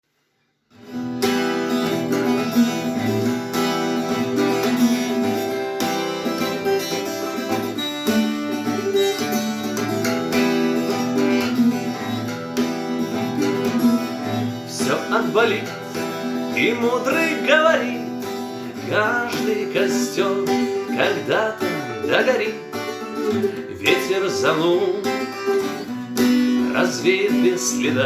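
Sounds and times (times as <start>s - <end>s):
acoustic guitar chords strummed: 0.7s - 28.0s.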